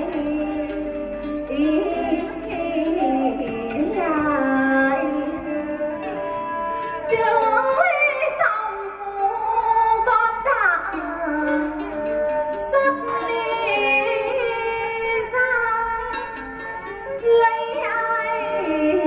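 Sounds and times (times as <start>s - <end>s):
woman singing folk opera: 0.0s - 6.2s, 7.0s - 12.0s, 12.6s - 16.3s, 17.0s - 19.0s
instrumental accompaniment: 0.0s - 19.0s.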